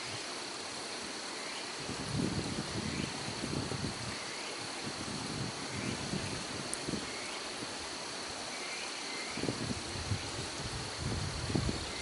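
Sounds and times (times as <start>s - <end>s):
insects trilling: 0.0s - 12.0s
outdoor hiss: 0.0s - 12.0s.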